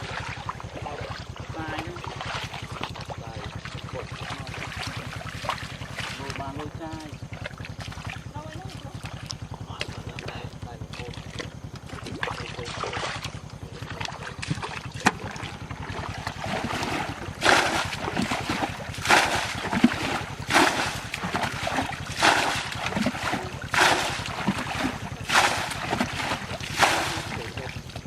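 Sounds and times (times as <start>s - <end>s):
steady low rumble: 0.0s - 28.0s
water splashing in strokes: 0.0s - 28.0s.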